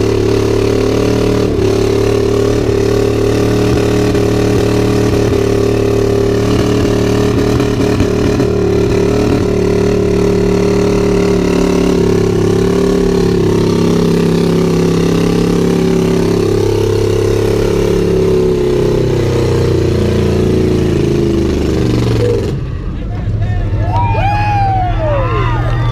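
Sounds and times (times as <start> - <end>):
truck engine revving high: 0.0 - 25.9.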